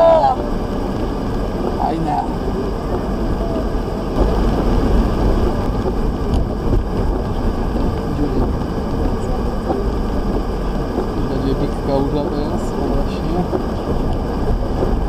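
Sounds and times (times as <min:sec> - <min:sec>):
car engine and tyres on wet road: 0:00.0 - 0:15.0.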